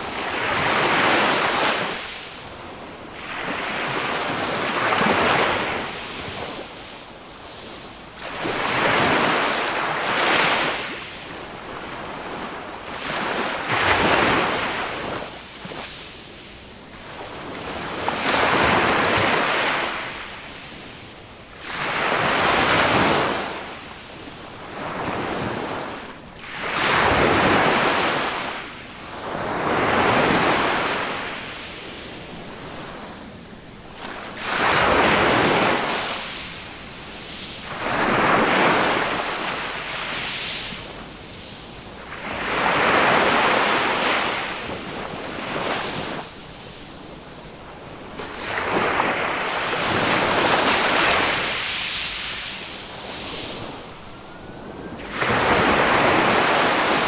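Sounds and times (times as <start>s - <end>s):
small waves breaking on shore: 0.0s - 57.0s.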